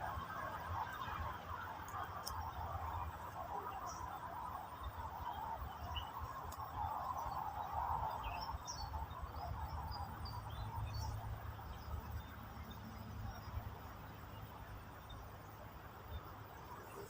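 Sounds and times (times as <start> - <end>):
small birds chirping: 0.9 - 17.0.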